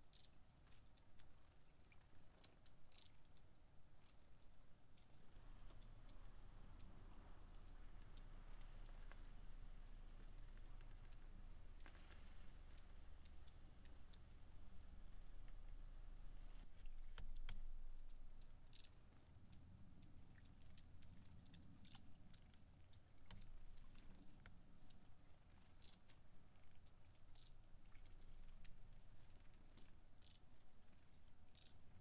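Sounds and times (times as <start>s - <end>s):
small birds calling: 0.0s - 32.0s.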